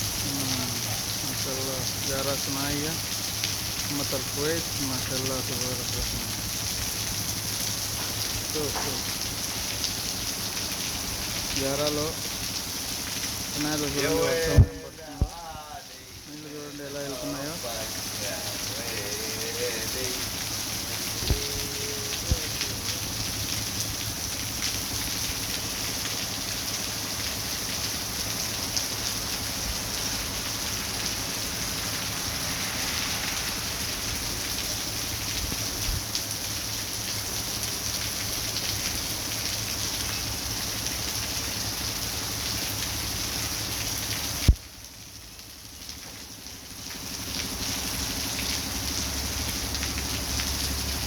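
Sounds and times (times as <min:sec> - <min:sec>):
heavy rain falling: 0:00.0 - 0:51.0
rain drop ticks: 0:00.0 - 0:51.0.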